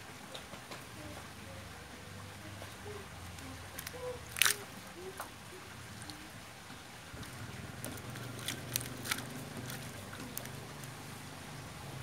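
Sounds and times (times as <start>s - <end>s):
low motor hum: 2.2s - 12.0s.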